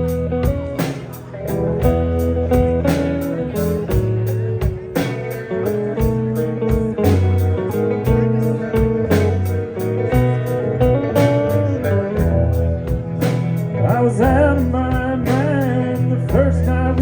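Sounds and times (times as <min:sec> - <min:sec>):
bass guitar: 0:00.0 - 0:17.0
electric guitar: 0:00.0 - 0:17.0
steady drum beat: 0:00.0 - 0:17.0.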